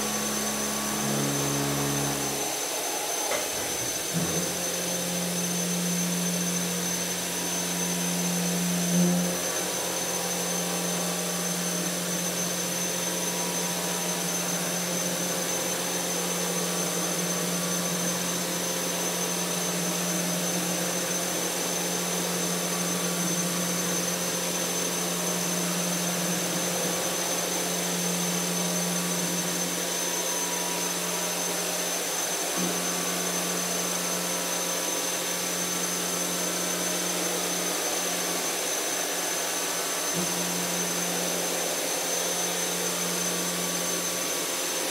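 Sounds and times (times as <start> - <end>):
milling machine cutting steel: 0.0 - 44.9.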